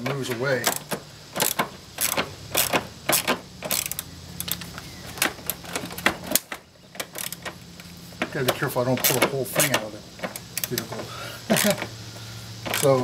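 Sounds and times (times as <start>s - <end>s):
ratchet wrench clicking: 0.3s - 12.0s, 12.6s - 13.0s.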